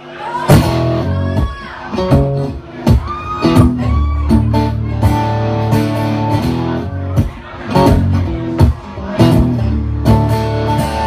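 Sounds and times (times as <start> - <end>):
acoustic guitar strumming: 0.5 - 11.0.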